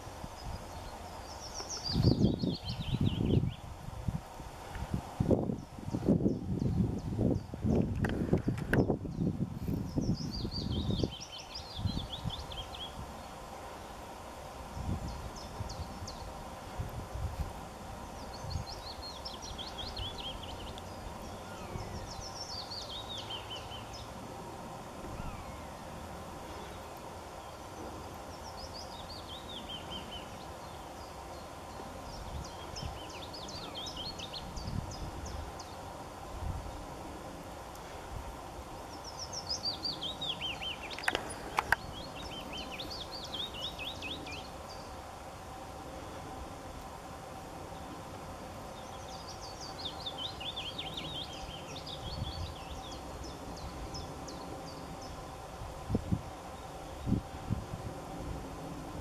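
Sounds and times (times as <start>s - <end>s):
songbird chirping: 0.0s - 3.7s, 5.4s - 37.0s, 38.8s - 55.4s
outdoor hiss: 0.0s - 59.0s.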